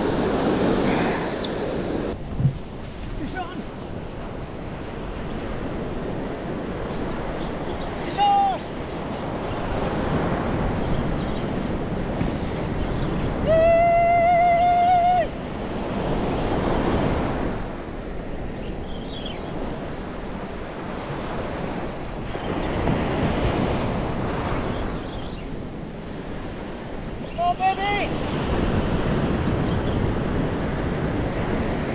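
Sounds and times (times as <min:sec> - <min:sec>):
surf breaking on beach: 0:00.0 - 0:18.6, 0:19.5 - 0:31.9
wind buffeting microphone: 0:00.0 - 0:31.9.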